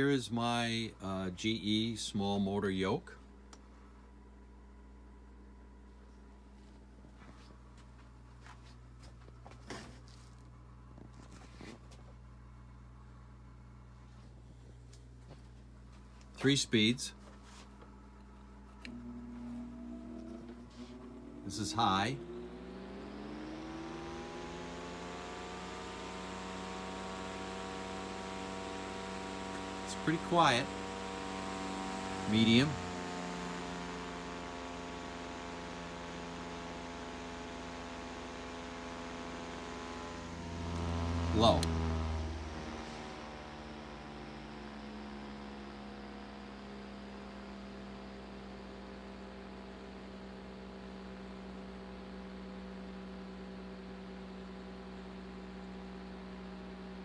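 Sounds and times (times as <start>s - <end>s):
desk fan motor hum: 0.0s - 57.0s
fan blades whirring: 6.6s - 57.0s.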